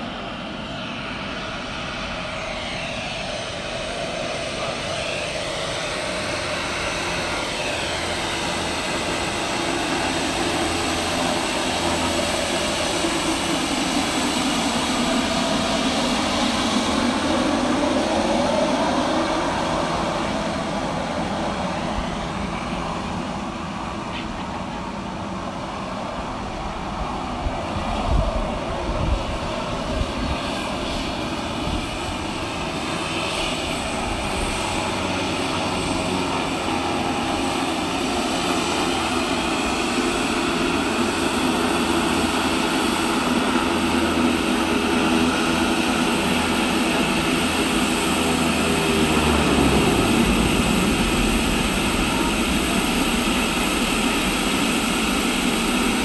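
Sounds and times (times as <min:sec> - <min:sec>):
turboprop engines whining: 0:00.0 - 0:56.0.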